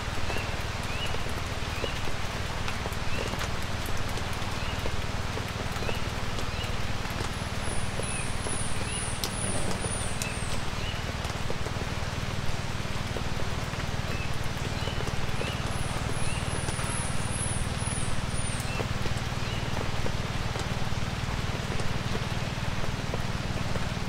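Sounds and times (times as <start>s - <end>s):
light rain patter: 0.0s - 24.0s
water drips: 0.0s - 24.0s.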